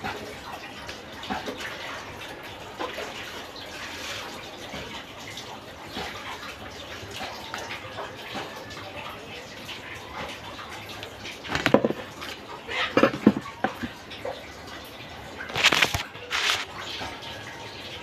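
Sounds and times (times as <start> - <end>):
water running and splashing: 0.0 - 18.0.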